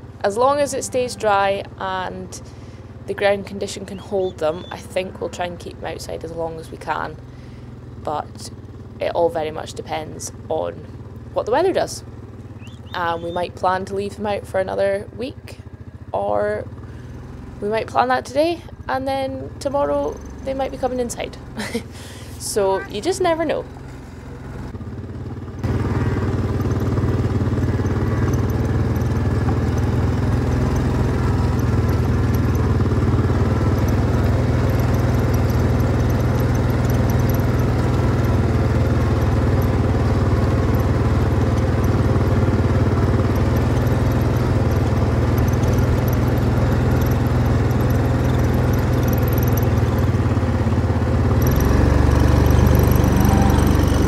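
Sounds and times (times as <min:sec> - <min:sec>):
farm vehicle engine running: 0:00.0 - 0:54.0.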